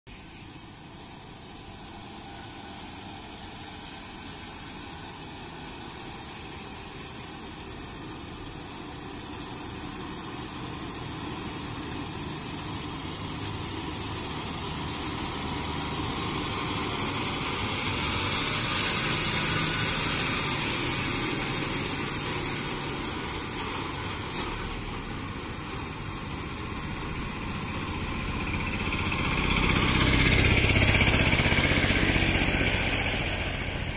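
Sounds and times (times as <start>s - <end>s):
smaller engine approaching: 0.1s - 33.9s
truck diesel engine passing: 0.1s - 33.9s.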